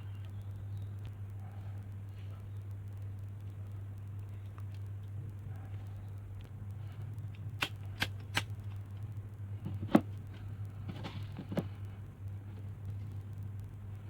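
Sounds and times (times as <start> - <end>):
soft gas hiss: 0.0 - 14.0
steady low hum: 0.0 - 14.0.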